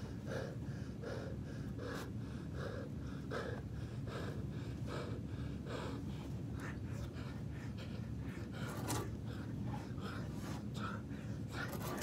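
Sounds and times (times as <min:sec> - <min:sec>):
man panting hard: 0:00.0 - 0:11.9.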